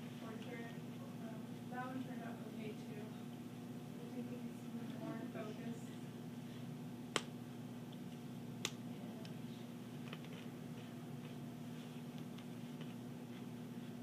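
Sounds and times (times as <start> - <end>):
low hum of room equipment: 0.0 - 14.0.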